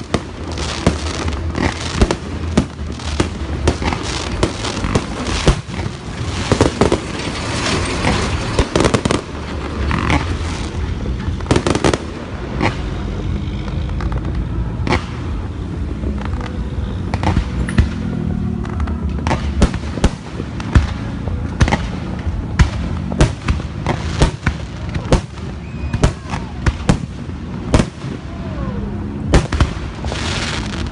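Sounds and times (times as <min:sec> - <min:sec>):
fireworks bangs and pops: 0:00.0 - 0:30.9
fireworks rumble and crackle: 0:00.0 - 0:30.9.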